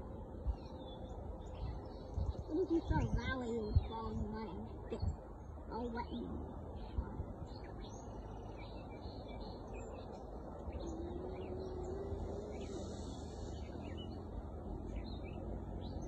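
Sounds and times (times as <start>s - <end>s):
birds chirping: 0.0s - 16.0s
faint wavering hum: 0.0s - 16.0s.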